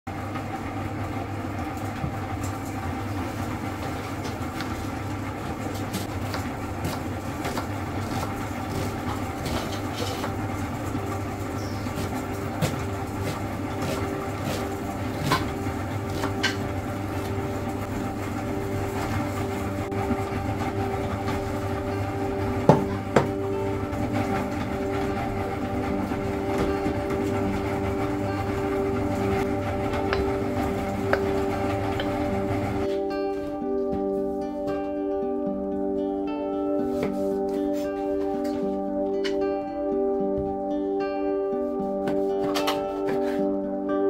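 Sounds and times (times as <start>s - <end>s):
droning background tones: 0.2s - 44.0s.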